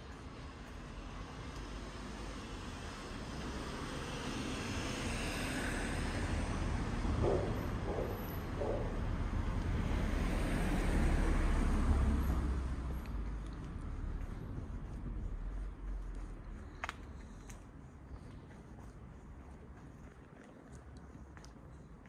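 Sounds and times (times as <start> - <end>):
street traffic rumble and hiss: 0.0 - 22.0.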